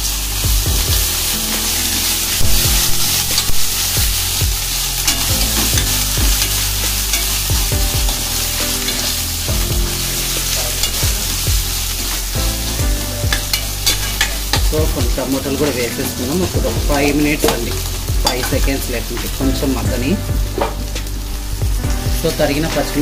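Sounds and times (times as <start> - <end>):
vegetables sizzling in hot oil: 0.0 - 23.0
ladle scraping and knocking pan: 0.6 - 22.4.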